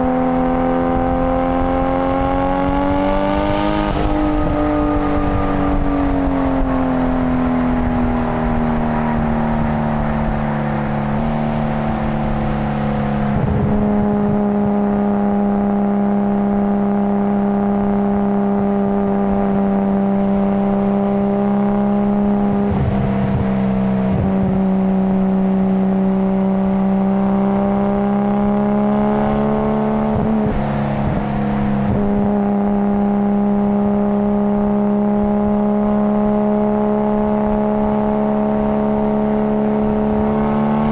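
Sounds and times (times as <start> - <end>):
car engine droning: 0.0 - 40.9.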